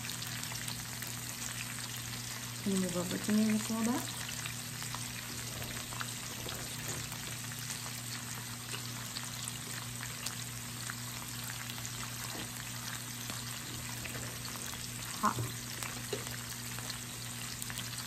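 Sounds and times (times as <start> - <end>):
meat sizzling on grill plate: 0.0 - 18.0.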